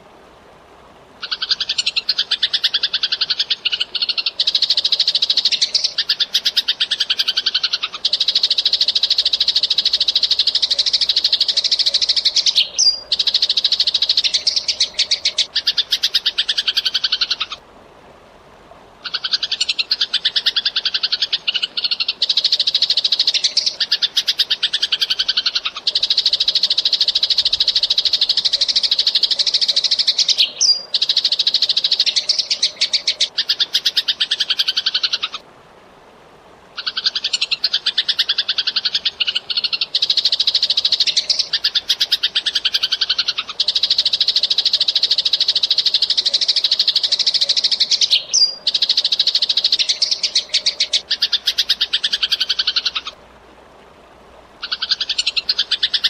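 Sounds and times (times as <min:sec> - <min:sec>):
sparrows chirping: 0:01.2 - 0:17.6, 0:19.1 - 0:35.4, 0:36.8 - 0:53.2.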